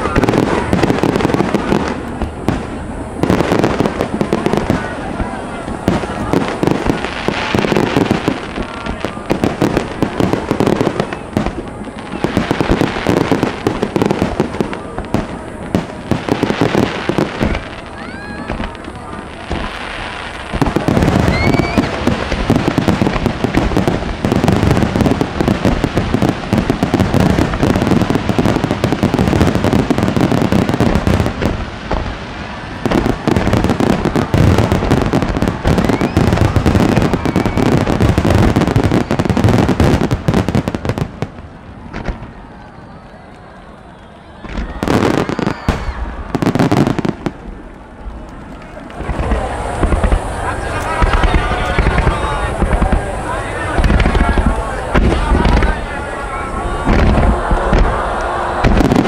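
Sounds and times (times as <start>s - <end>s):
rising firework whistles: 0.0s - 47.8s, 48.6s - 59.0s
fireworks booming and crackling: 0.0s - 59.0s.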